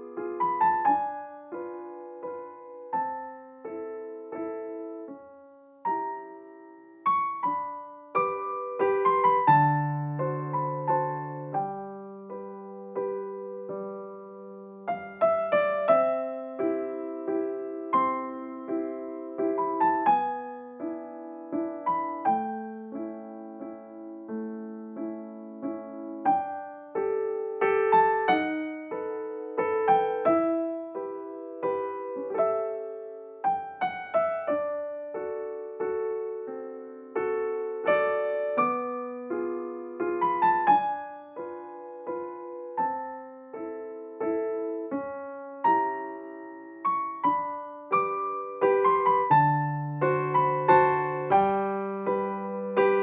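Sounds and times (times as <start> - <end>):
gentle piano music: 0.0 - 53.0.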